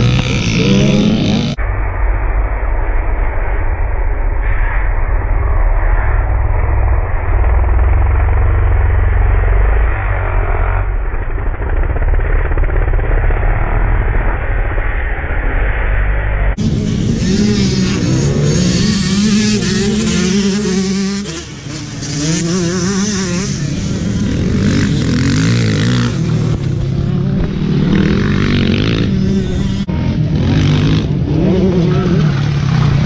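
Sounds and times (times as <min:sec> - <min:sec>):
dirt bikes revving past: 0:00.0 - 0:33.0.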